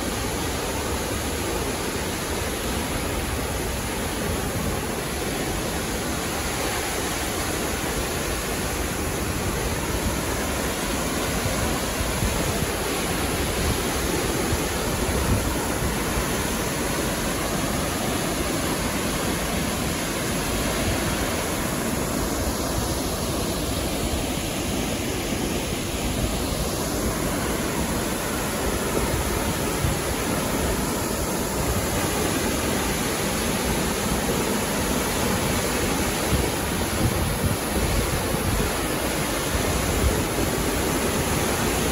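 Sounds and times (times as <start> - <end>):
waterfall crashing onto rocks: 0.0 - 41.9.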